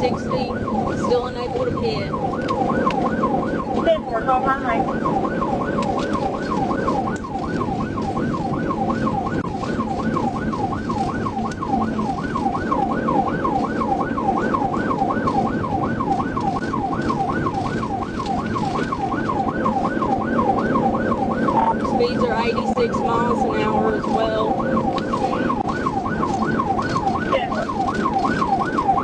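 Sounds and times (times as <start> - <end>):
car road and engine noise: 0.0 - 29.0
police siren yelping: 0.0 - 29.0.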